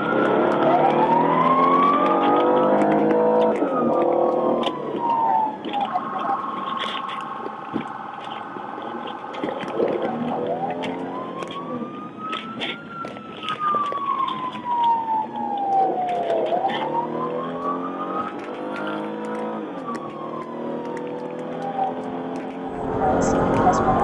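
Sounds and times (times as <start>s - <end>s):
police siren wailing: 0.0s - 24.0s
vehicle and road noise: 0.0s - 24.0s.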